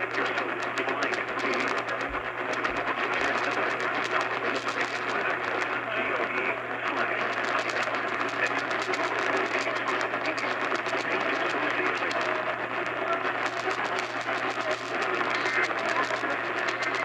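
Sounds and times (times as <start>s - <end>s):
faint radio audio: 0.0s - 17.0s
radio static hiss: 0.0s - 17.0s
static crackles: 0.0s - 17.0s.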